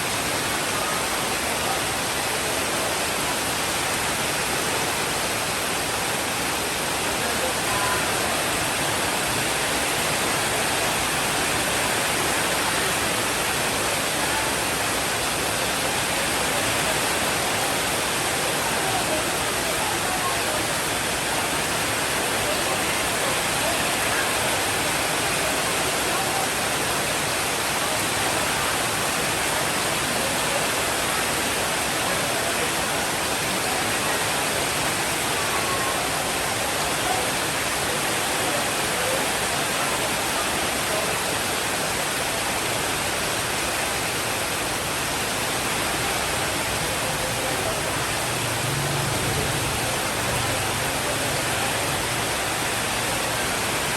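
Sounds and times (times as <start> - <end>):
heavy rainfall: 0.0 - 53.9.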